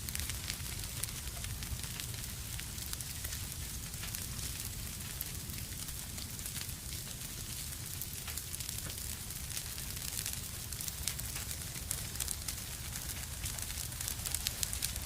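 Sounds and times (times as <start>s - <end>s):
sharp pops from fire: 0.0s - 15.0s
wood fire crackling: 0.0s - 15.0s.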